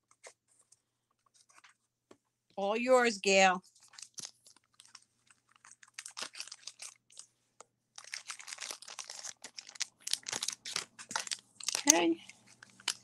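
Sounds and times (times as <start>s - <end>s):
crinkling and rustling material: 0.0s - 2.6s, 3.3s - 13.0s.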